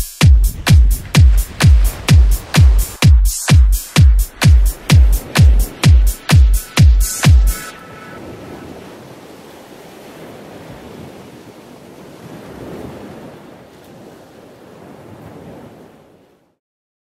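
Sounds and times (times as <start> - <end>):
sea waves washing on shore: 0.0 - 16.6.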